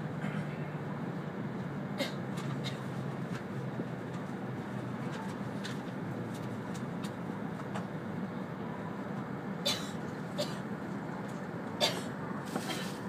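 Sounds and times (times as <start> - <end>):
train cabin hum and rumble: 0.0 - 13.0.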